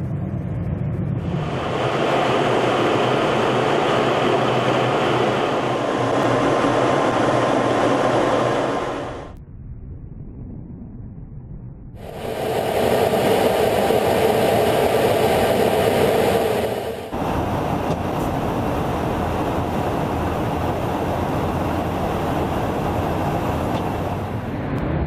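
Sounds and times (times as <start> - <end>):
jet aircraft cabin roar: 0.0 - 9.4, 12.0 - 25.0.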